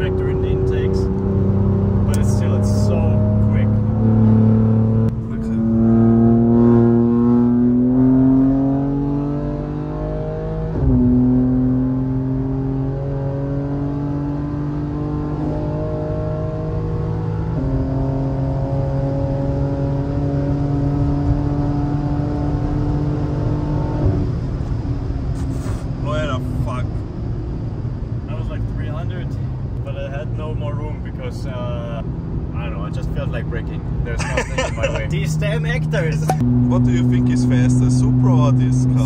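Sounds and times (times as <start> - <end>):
car engine accelerating hard: 0.0 - 39.0.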